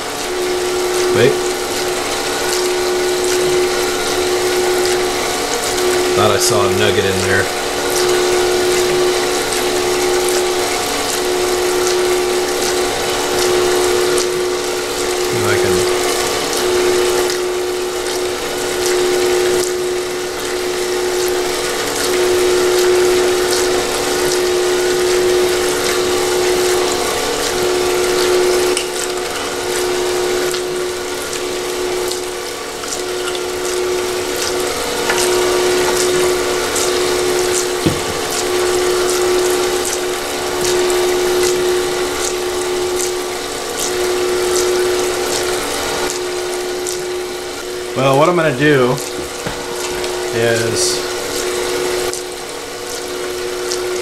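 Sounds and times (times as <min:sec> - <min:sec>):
motor and pump humming: 0:00.0 - 0:54.0
water splashing: 0:00.0 - 0:54.0.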